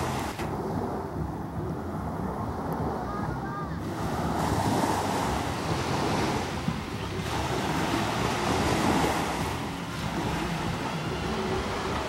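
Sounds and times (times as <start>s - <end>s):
sea surf washing ashore: 0.0s - 12.0s
wind rumbling on microphone: 0.0s - 12.0s.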